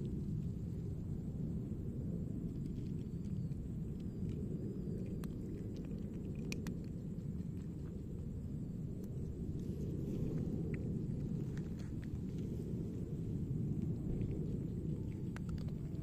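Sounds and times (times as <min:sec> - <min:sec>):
steady low rumble: 0:00.0 - 0:16.0
cat crunching dry kibble: 0:02.5 - 0:16.0.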